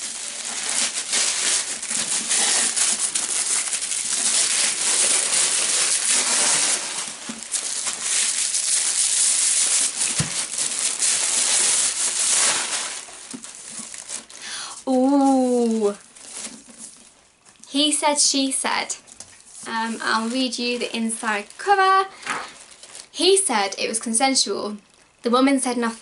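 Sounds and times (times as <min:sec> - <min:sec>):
paper wrapping crinkling and tearing: 0:00.0 - 0:17.2, 0:19.3 - 0:23.3.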